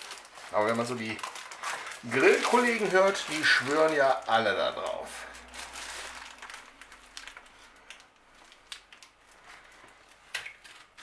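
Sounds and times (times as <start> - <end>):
baking paper crinkling: 0.0 - 11.0.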